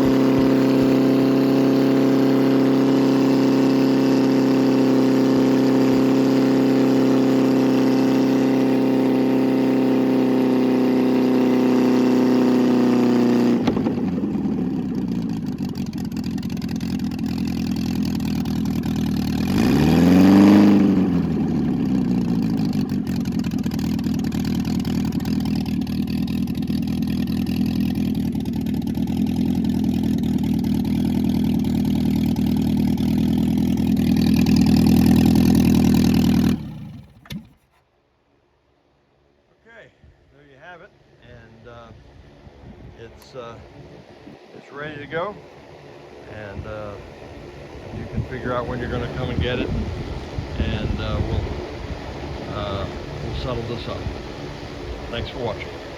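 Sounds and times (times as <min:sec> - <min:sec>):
unmuffled car engine running: 0:00.0 - 0:37.8, 0:41.3 - 0:55.9.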